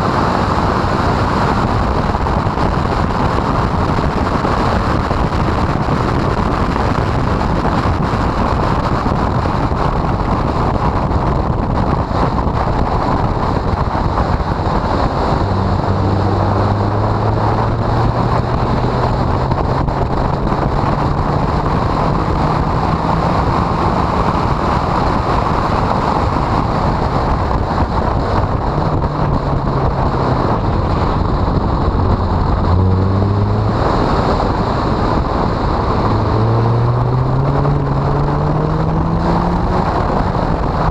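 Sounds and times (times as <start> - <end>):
car engine pulling hard: 0.0 - 40.9
wind noise on microphone: 0.0 - 40.9.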